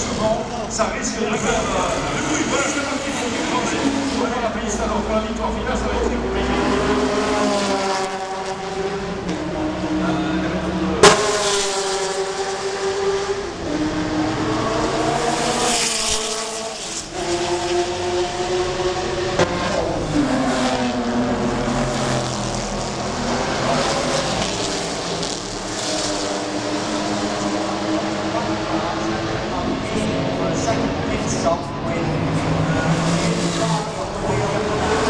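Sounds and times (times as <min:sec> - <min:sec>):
racing engine shifting gears: 0:00.0 - 0:35.0.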